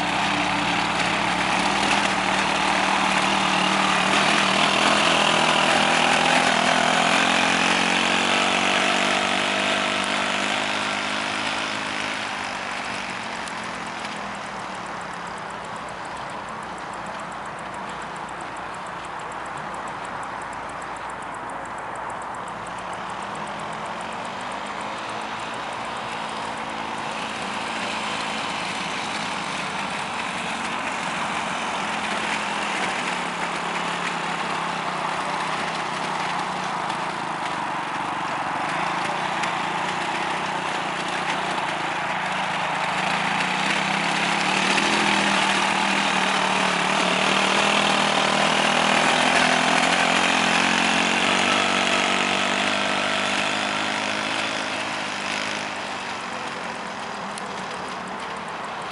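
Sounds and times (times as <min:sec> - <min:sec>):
quad bike engine running: 0:00.0 - 0:58.9.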